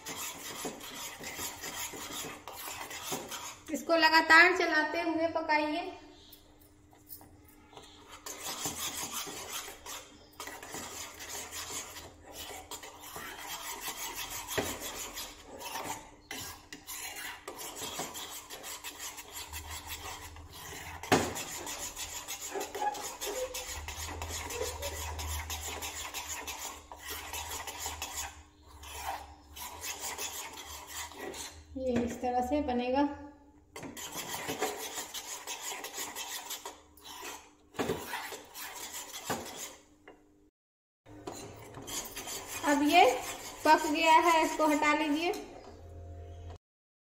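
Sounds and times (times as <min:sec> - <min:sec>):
metal spoon scraping a pan: 0:00.0 - 0:04.1, 0:06.2 - 0:32.2, 0:33.8 - 0:39.9, 0:41.1 - 0:45.8.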